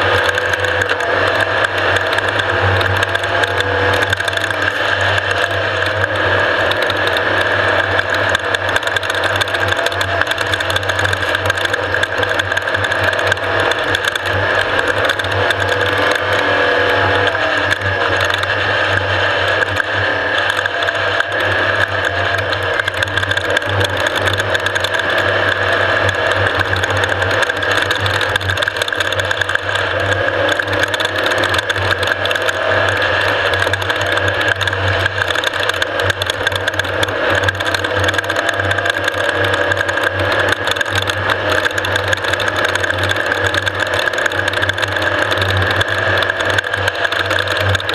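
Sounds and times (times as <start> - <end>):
dense rattling: 0.0 - 47.9
off-road vehicle engine drone: 0.0 - 47.9.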